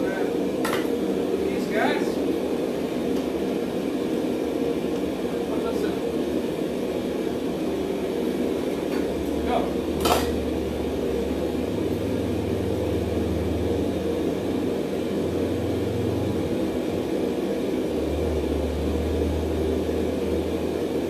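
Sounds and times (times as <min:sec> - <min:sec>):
forge roaring: 0:00.0 - 0:21.0
low hum: 0:02.2 - 0:21.0.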